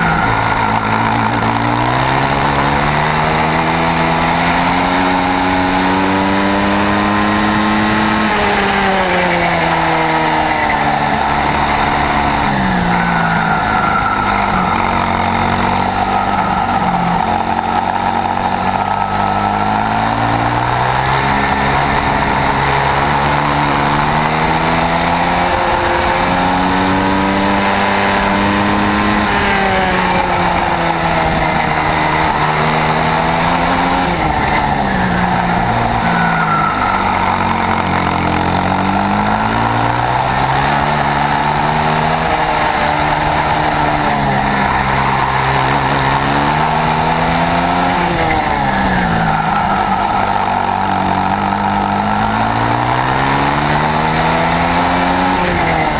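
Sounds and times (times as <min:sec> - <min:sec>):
two-stroke kart engine revving: 0:00.0 - 0:55.9.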